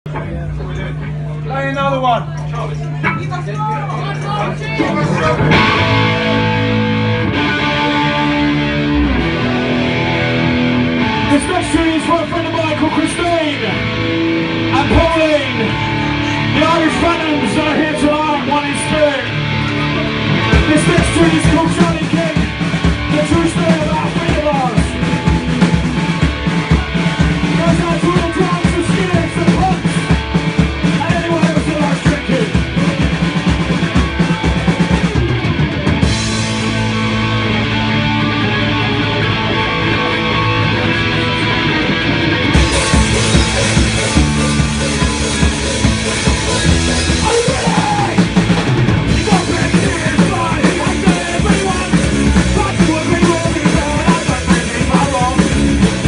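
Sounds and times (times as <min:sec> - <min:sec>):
live rock band playing: 0:00.1 - 0:56.0.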